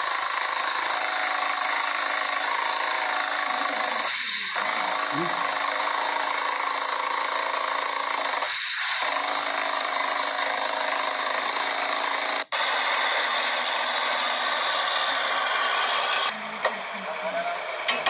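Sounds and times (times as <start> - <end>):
compressed-air drilling hiss: 0.0 - 16.3.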